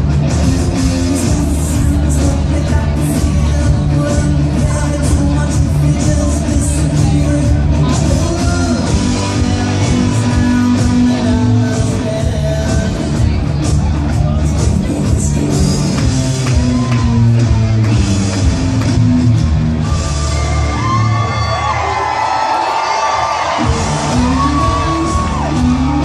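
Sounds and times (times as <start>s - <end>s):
live rock band playing: 0.0s - 21.8s, 23.4s - 26.0s.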